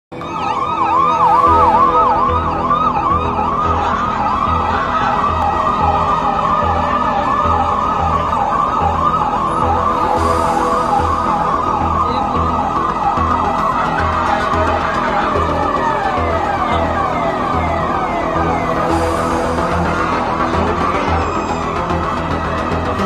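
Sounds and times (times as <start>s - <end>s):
police siren yelping: 0.1s - 23.0s.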